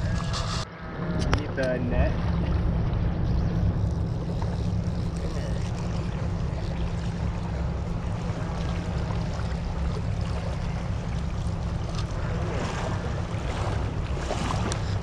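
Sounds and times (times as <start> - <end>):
feet wading through water: 2.0 - 15.0.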